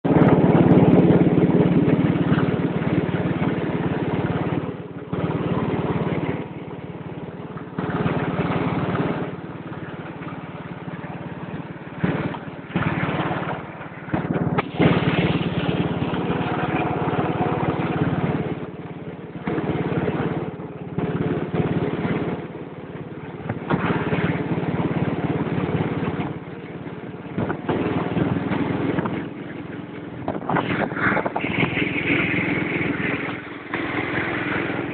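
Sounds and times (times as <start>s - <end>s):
ride-on tractor engine running: 0.0s - 34.9s.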